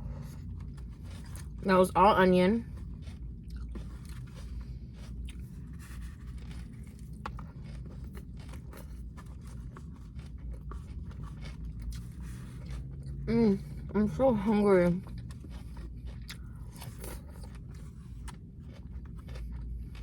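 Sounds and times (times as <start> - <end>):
close-mic chewing: 0.0 - 20.0.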